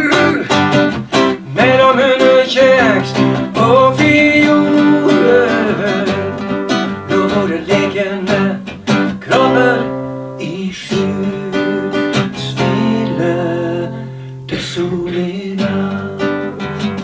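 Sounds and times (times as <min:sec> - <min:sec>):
man and woman singing duet: 0:00.0 - 0:00.6, 0:01.4 - 0:16.6
strummed acoustic guitar: 0:00.0 - 0:17.0.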